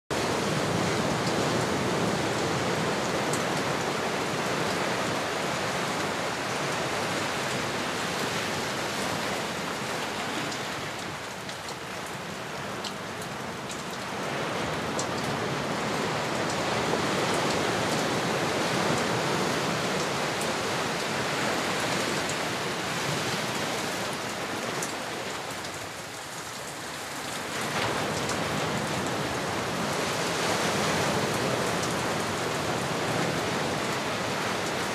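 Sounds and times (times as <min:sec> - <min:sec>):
ocean waves breaking: 0:00.2 - 0:11.5, 0:13.4 - 0:25.6, 0:26.9 - 0:34.9.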